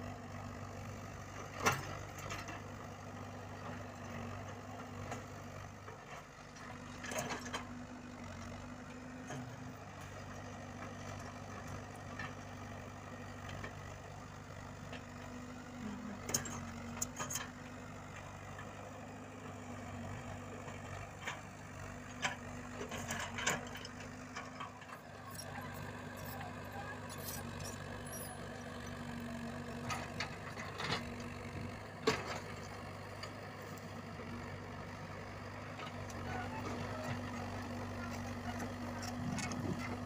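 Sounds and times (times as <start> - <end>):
diesel excavator engine running: 0.0 - 40.0.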